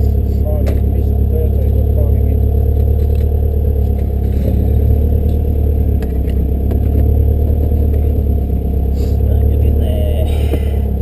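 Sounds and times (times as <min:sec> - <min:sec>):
race car engine idling: 0:00.0 - 0:11.0.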